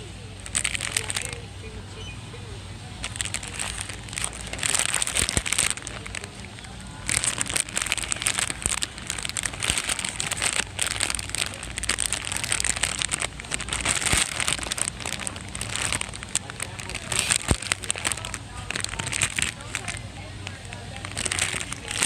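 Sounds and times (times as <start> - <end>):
crinkling handling noise: 0.0 - 22.0
low steady hum: 0.0 - 22.0.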